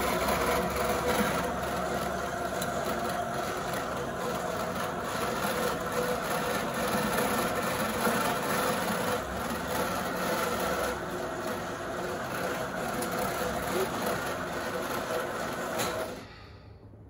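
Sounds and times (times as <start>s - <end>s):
wool-roving machine humming: 0.0s - 16.3s.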